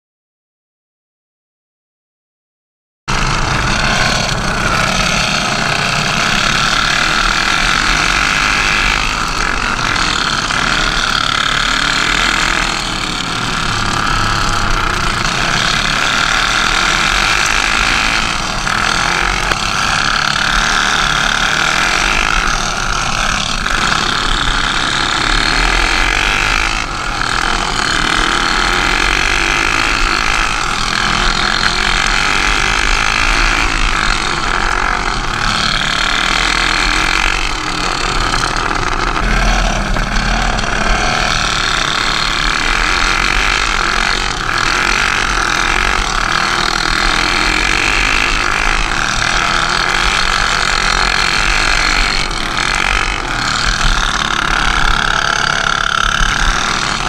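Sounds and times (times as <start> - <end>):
go-kart engines droning: 3.1 - 57.0.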